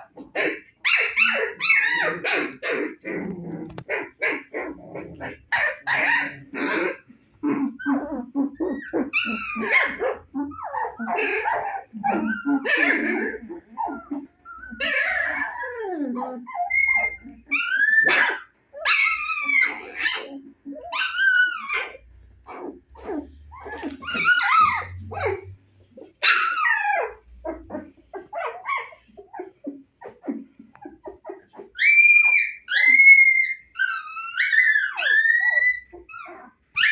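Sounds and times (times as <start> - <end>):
puppies barking: 0.0 - 36.9
puppies yipping and whining: 0.0 - 36.9.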